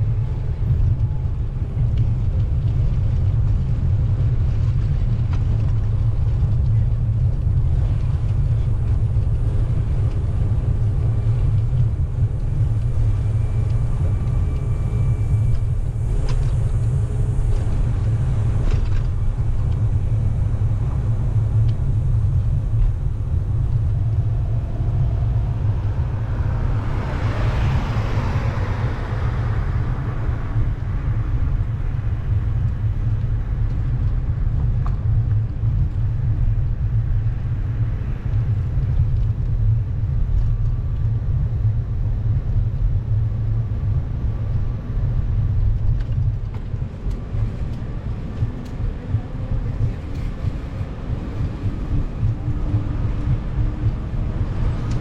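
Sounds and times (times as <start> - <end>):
wind rumble on microphone: 0.0 - 55.0
passing vehicle rush: 7.1 - 55.0.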